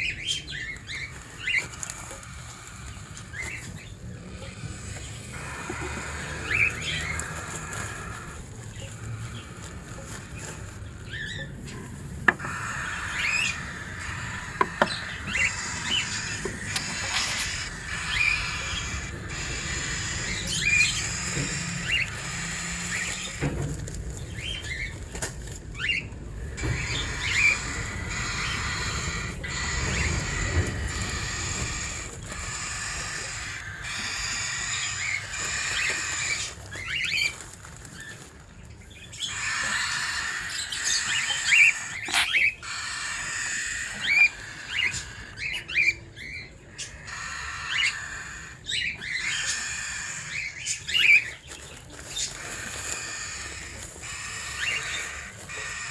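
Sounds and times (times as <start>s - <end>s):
cockatiels chirping: 0.0s - 55.9s.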